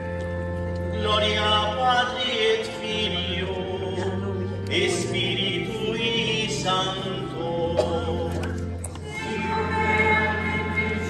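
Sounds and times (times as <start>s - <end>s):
crowd singing a hymn: 1.0s - 11.0s.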